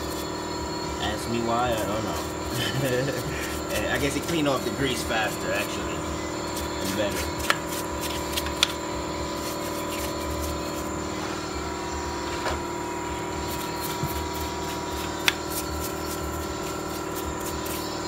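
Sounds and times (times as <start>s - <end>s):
paintbrush scrubbing metal housing: 0.0s - 11.6s, 12.9s - 18.0s
mechanical hum with held tones: 0.0s - 18.0s.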